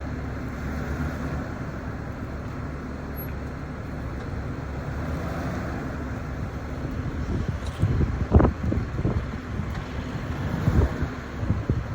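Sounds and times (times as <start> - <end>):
truck engine idling: 0.0 - 11.9.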